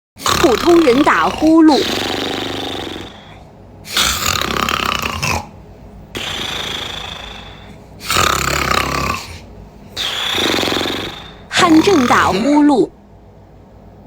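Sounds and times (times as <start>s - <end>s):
person snoring: 0.2s - 5.6s, 6.2s - 12.8s.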